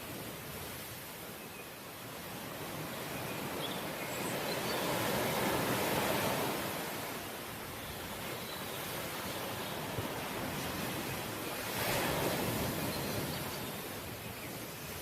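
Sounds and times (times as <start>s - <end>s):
ocean waves washing on shore: 0.0s - 15.0s.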